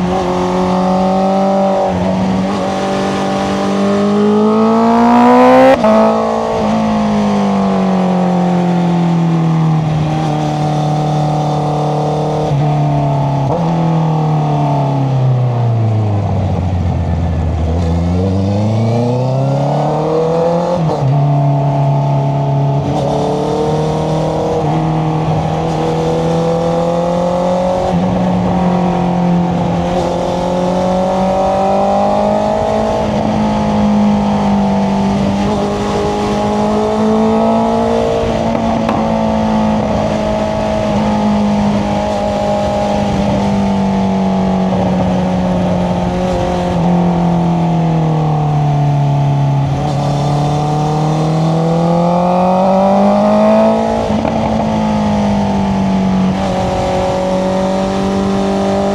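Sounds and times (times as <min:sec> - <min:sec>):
motorcycle engine revving: 0:00.0 - 0:58.9
wind noise: 0:00.0 - 0:58.9.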